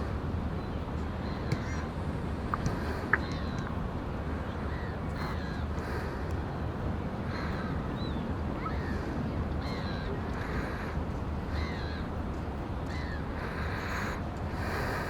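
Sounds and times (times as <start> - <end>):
wind and surf rumble: 0.0 - 15.0.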